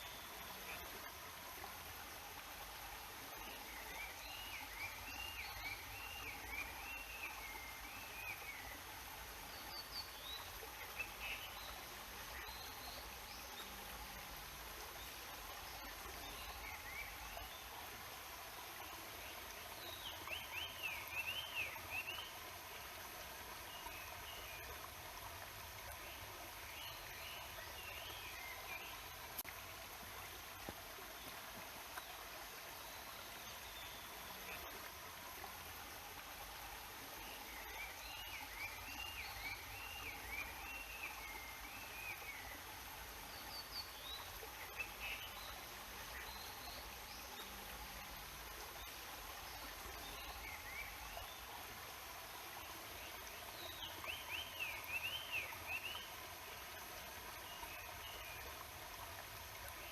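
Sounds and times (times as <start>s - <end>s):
mountain stream murmuring: 0.0s - 59.9s.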